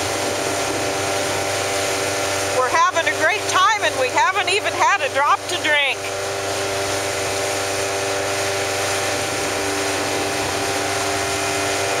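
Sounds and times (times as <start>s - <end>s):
motorboat engine humming: 0.0s - 12.0s
rush of wind and water: 0.0s - 12.0s.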